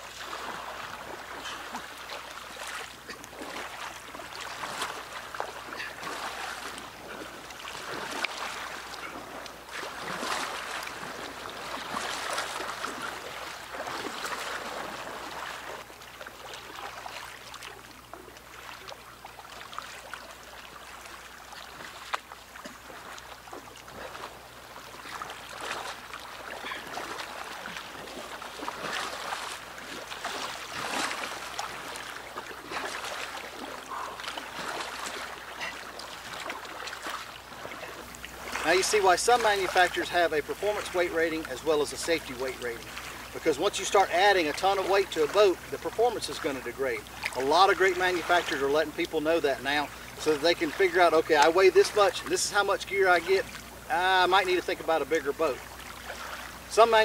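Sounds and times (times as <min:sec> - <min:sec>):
water lapping from paddling: 0:00.0 - 0:57.0.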